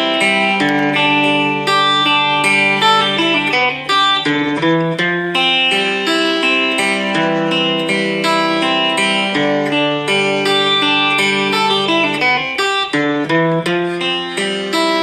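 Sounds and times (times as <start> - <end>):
electric guitar riff: 0.0 - 15.0.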